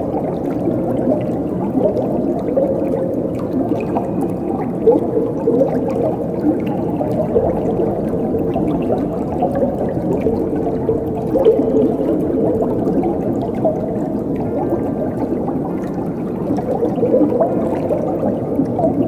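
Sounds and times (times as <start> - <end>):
water gurgling over stones: 0.0 - 19.0.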